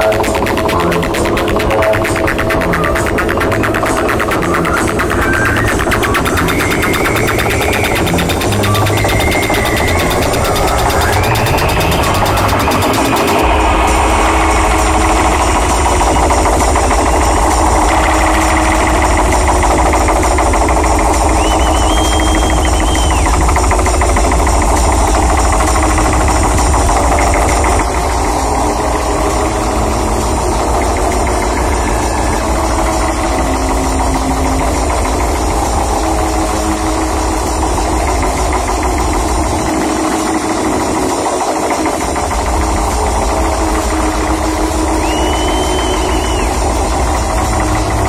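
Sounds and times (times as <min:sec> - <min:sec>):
techno music with heavy bass: 0:00.0 - 0:48.0.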